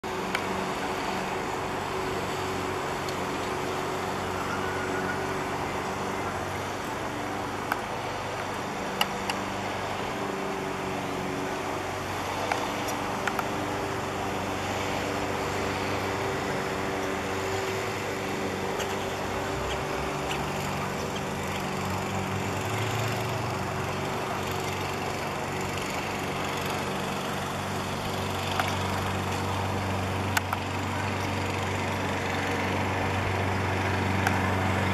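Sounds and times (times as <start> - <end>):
motor humming: 0.0 - 34.9.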